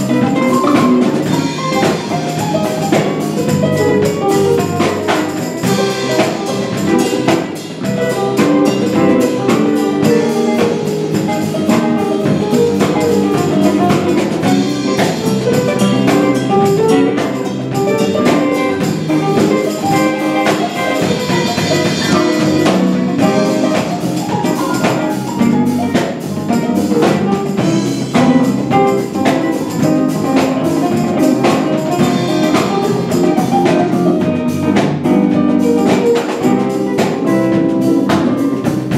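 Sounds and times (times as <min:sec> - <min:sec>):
drum kit: 0:00.0 - 0:38.9
electric bass: 0:00.0 - 0:38.9
electric guitar: 0:00.0 - 0:38.9
keyboard: 0:00.0 - 0:38.9.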